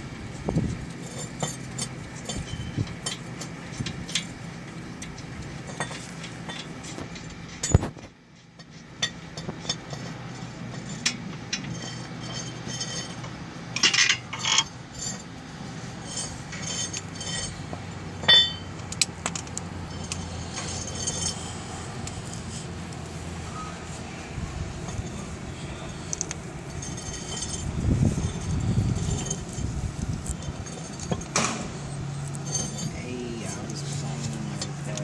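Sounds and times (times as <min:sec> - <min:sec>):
steady low hum: 0:00.0 - 0:35.0
metal tools clinking: 0:00.9 - 0:15.3, 0:16.0 - 0:23.8, 0:24.8 - 0:35.0.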